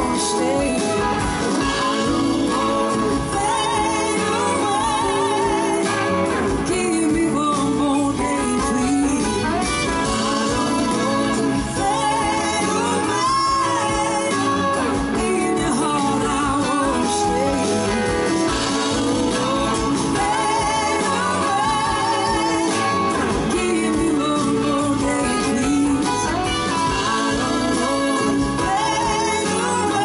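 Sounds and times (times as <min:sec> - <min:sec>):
blues-rock band playing: 0:00.0 - 0:30.0
electric guitars: 0:00.0 - 0:30.0
woman singing: 0:00.0 - 0:30.0.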